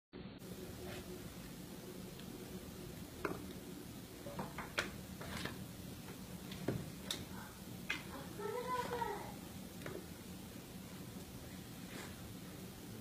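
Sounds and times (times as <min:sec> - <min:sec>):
low steady hum: 0:00.2 - 0:13.0.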